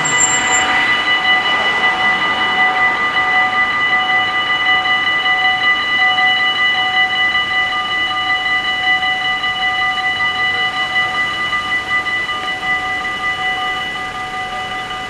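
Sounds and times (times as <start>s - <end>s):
level crossing warning bells: 0.0s - 15.0s.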